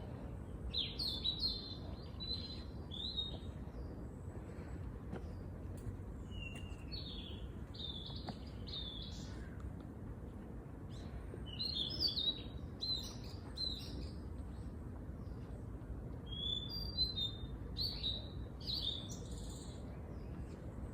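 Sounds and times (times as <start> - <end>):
small songbirds chirping: 0.0 - 9.8, 10.8 - 20.9
low background rumble: 0.0 - 20.9.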